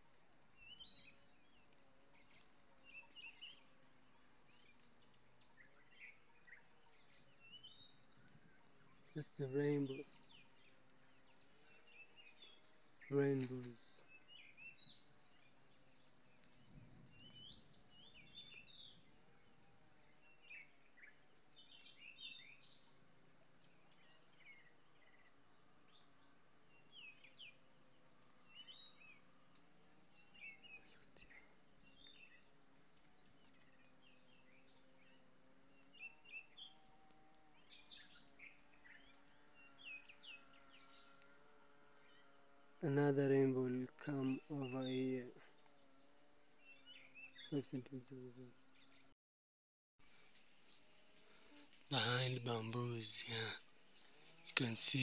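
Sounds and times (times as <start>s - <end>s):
faint bird chirps: 0.0s - 29.3s, 30.0s - 49.1s.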